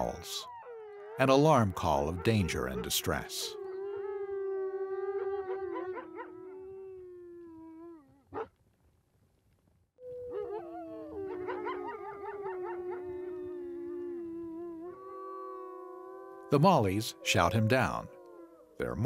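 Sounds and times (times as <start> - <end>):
wolves howling: 0.0 - 8.5, 10.0 - 19.0.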